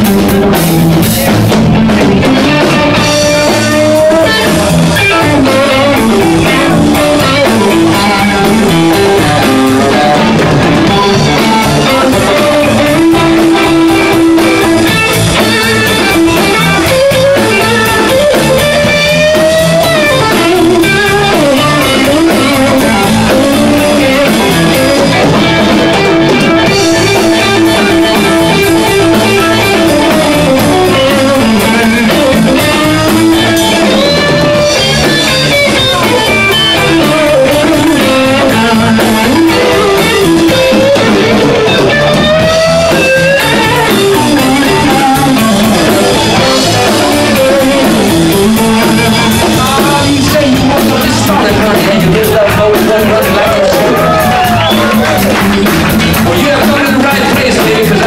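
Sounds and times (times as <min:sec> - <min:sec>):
bass: 0:00.0 - 0:58.0
drum kit: 0:00.0 - 0:58.0
electric guitar lead: 0:00.0 - 0:58.0.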